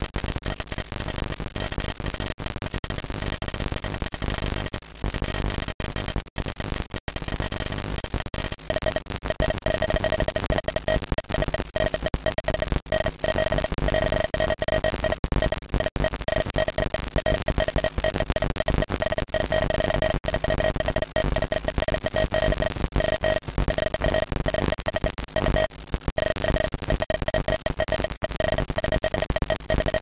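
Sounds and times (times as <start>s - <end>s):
crackly electronic buzz with tone: 0.0s - 30.0s.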